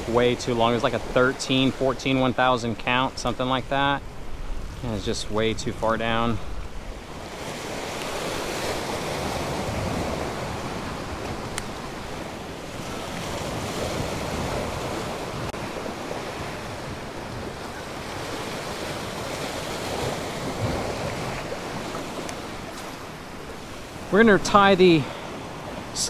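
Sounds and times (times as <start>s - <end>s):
waves splashing against rocks: 0.0s - 26.0s
wind buffeting microphone: 0.0s - 26.0s.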